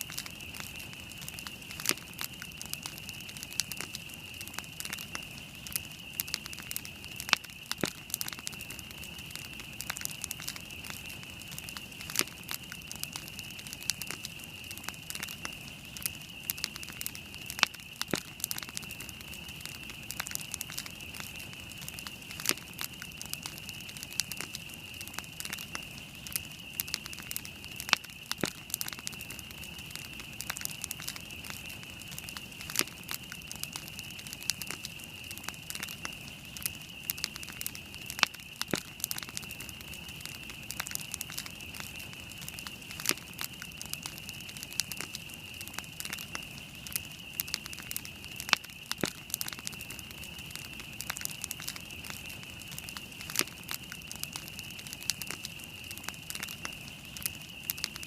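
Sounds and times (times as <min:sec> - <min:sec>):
campfire crackling and popping: 0:00.0 - 0:58.0
steady high-pitched hiss: 0:00.0 - 0:58.0.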